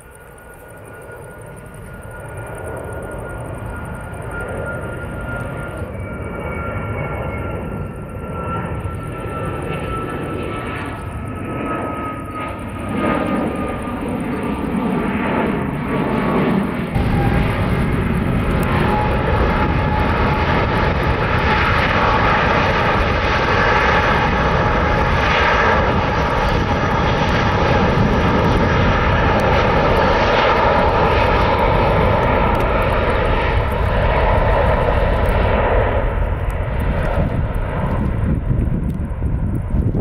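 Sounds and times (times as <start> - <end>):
jet engine roar with fan whine: 0.0 - 40.0.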